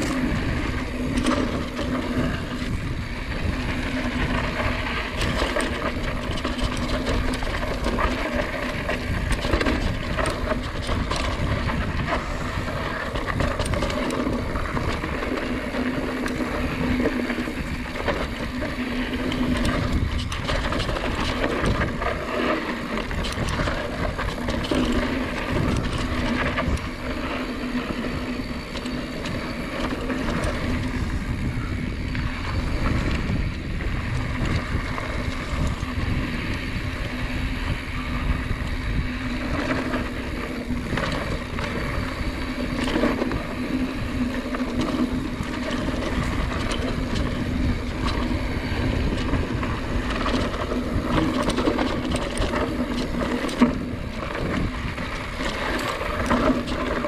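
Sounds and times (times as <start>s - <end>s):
bike rattles and knocks: 0.0s - 57.0s
steady low hum: 0.0s - 57.0s
tyre noise on dirt: 0.0s - 57.0s
wind rushing over microphone: 0.0s - 57.0s.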